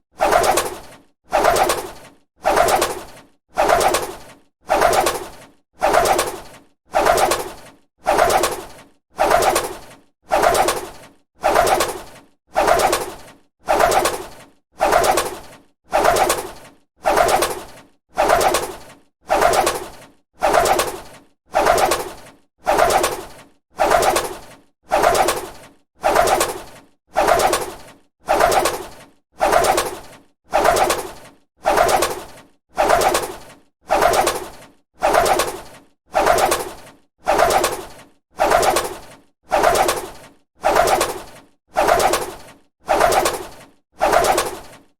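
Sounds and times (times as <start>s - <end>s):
bird wings flapping: 0.2s - 44.9s.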